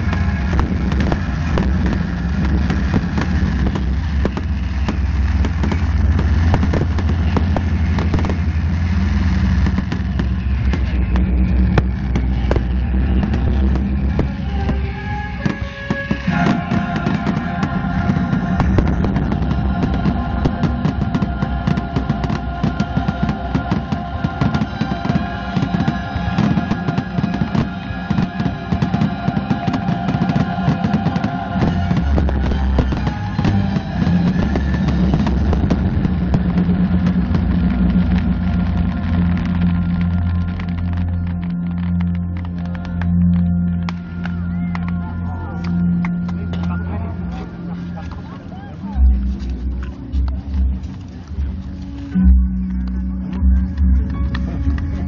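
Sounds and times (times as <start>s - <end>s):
fireworks bangs and crackles: 0.0s - 45.0s
music with long held notes: 0.0s - 55.0s.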